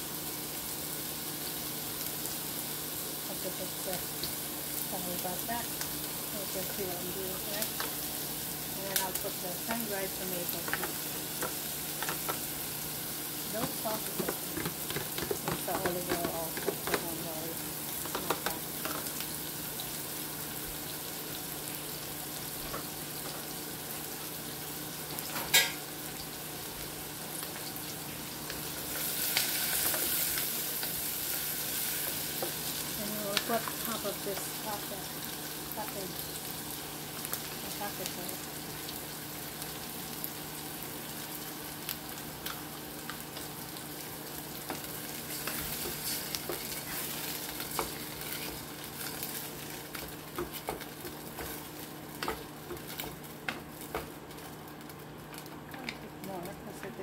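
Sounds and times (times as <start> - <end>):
onions sizzling in a pan: 0.0 - 57.0.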